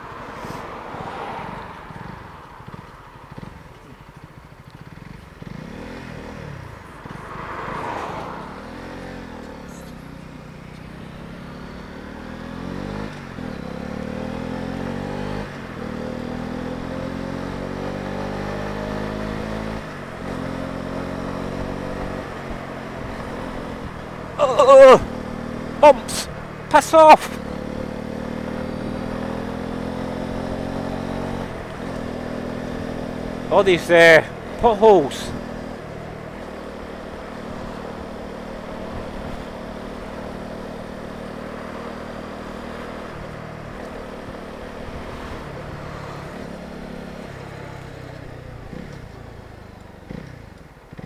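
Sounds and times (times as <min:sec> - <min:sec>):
motorcycle engine accelerating: 0:01.2 - 0:51.0.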